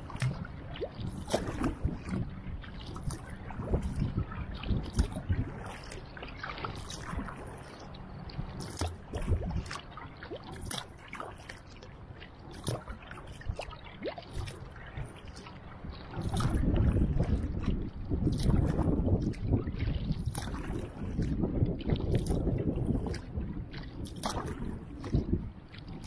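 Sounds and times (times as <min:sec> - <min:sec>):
paddle splashing in water: 0:00.0 - 0:26.0.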